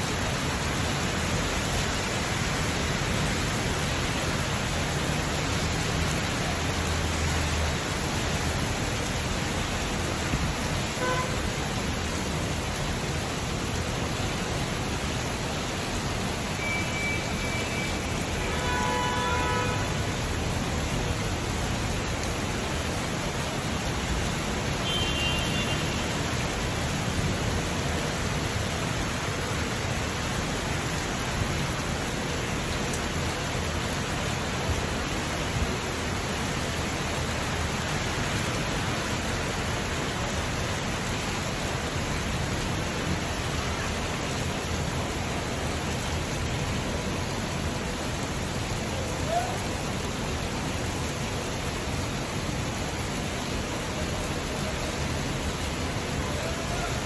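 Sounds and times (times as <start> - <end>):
rain falling steadily: 0.0 - 57.0
traffic on wet roads: 0.0 - 57.0.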